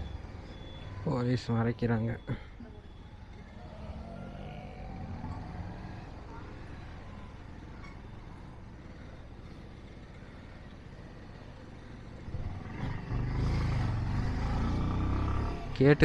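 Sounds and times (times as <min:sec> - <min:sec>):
motorcycle engine rumbling: 0:02.2 - 0:15.8.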